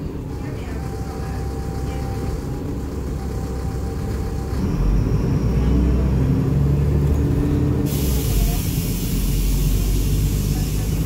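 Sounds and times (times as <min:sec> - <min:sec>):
bus diesel engine rumble: 0:00.0 - 0:11.0.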